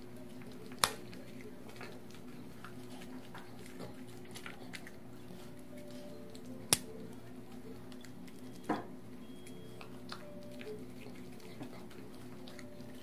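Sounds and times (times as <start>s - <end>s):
dog chewing: 0.0s - 13.0s
steady low hum: 0.0s - 13.0s.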